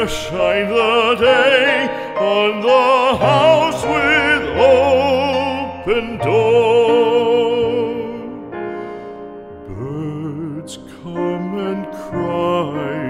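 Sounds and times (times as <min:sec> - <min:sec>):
person singing with vibrato: 0:00.0 - 0:09.0, 0:09.6 - 0:13.0
piano accompaniment: 0:00.0 - 0:13.0.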